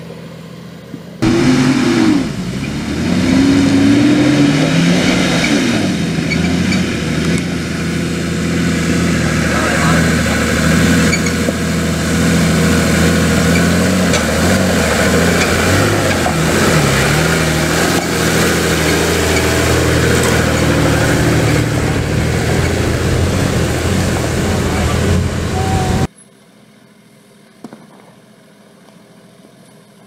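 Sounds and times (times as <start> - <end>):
diesel engine at low revs: 0.0 - 26.1.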